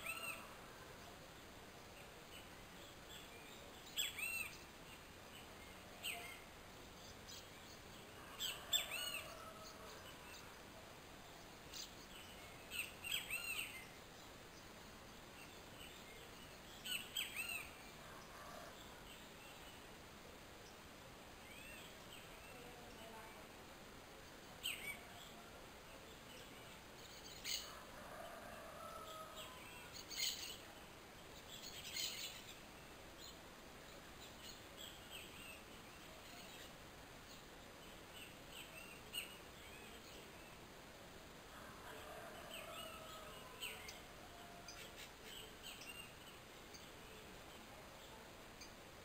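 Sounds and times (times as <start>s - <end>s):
faint steady hiss: 0.0s - 49.0s.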